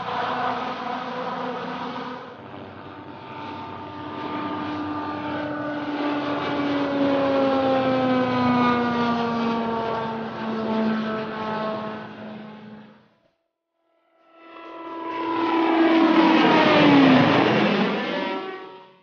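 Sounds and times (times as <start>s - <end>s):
helicopter flying past: 0.0s - 13.2s, 14.1s - 19.0s.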